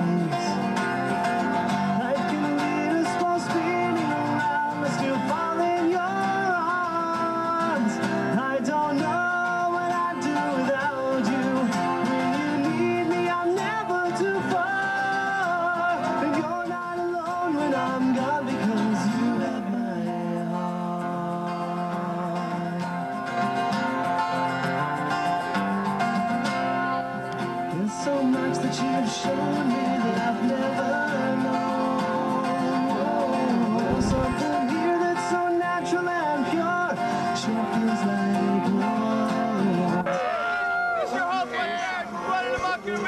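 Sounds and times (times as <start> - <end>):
acoustic guitars strummed and picked: 0.0 - 43.0
lead guitar melody: 0.0 - 43.0.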